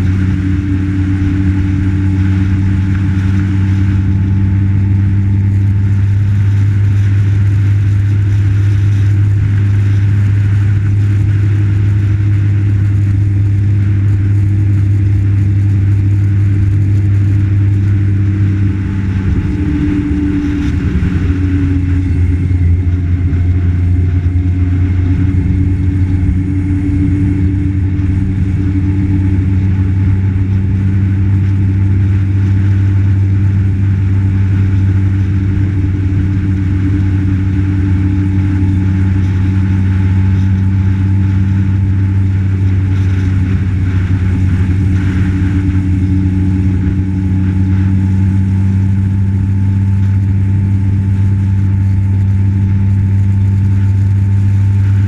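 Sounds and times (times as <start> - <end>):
vehicle engine droning: 0.0 - 55.0
wind and road noise: 0.0 - 55.0.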